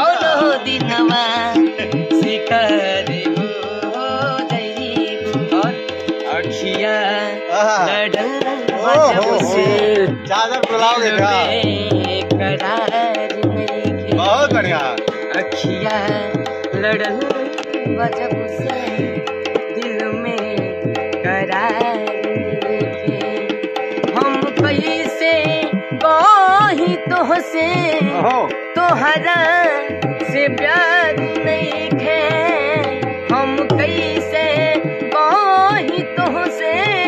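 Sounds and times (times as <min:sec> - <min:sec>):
hand drum rhythm: 0:00.0 - 0:37.0.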